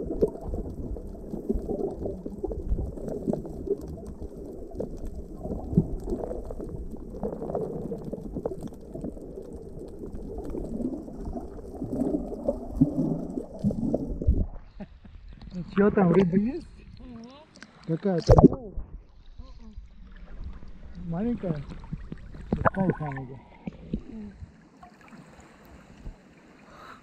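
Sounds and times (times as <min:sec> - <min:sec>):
underwater water sloshing and gurgling: 0:00.0 - 0:27.0.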